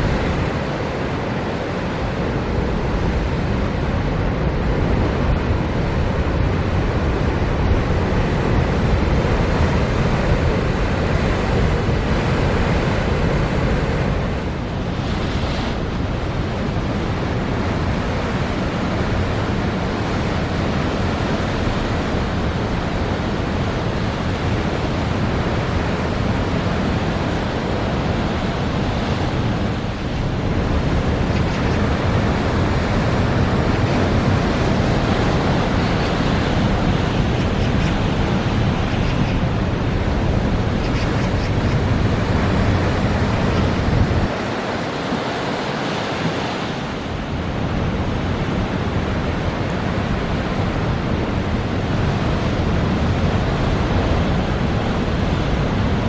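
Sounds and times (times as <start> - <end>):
surf crashing on rocky shore: 0.0 - 56.0
wind buffeting microphone: 0.0 - 56.0.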